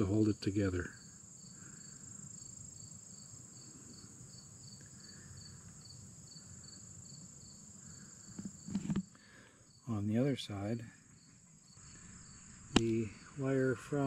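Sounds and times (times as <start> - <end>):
insect chirping: 0.0 - 14.0
insects droning: 0.0 - 14.0.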